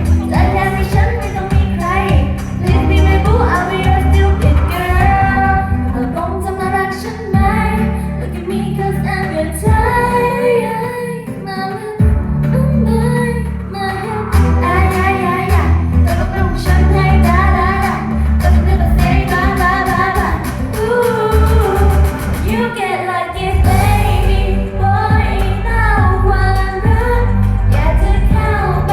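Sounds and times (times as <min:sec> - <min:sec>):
pulsing bass line: 0:00.0 - 0:10.3, 0:12.0 - 0:22.7, 0:23.4 - 0:28.9
woman singing pop song: 0:00.0 - 0:28.9.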